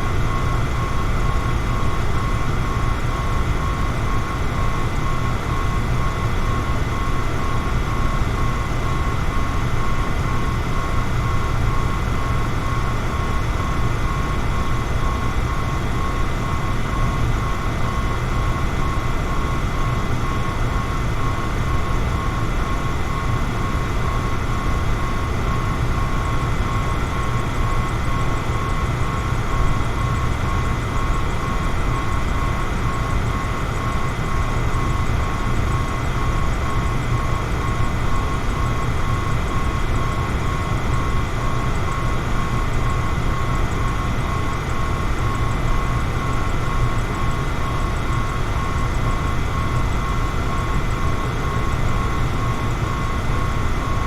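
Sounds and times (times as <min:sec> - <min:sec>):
faint motor whine: 0:00.0 - 0:54.0.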